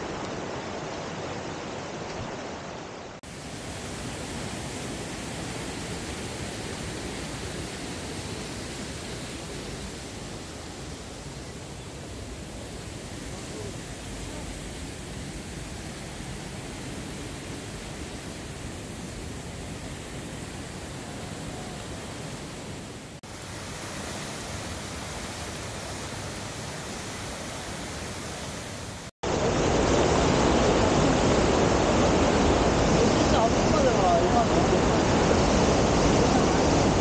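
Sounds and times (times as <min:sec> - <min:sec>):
rushing stream and waterfall: 0:00.0 - 0:37.0.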